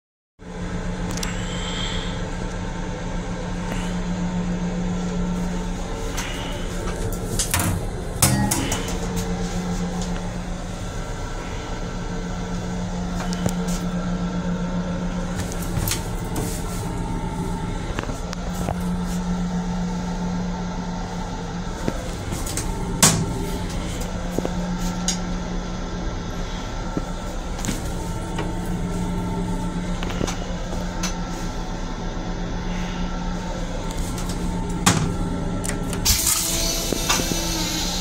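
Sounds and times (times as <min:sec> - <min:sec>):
electric railcar hum and rumble: 0:00.4 - 0:38.0.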